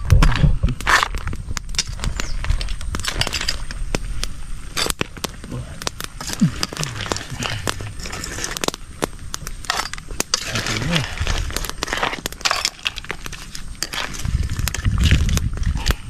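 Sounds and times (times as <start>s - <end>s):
wood fire crackling and popping: 0.0s - 16.0s
water boiling in wok: 0.8s - 16.0s.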